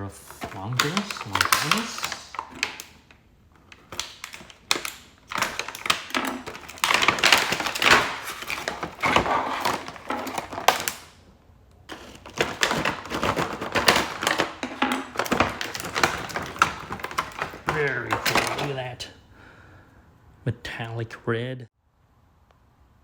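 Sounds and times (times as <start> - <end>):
plastic blister packaging crackling: 0.0 - 19.1.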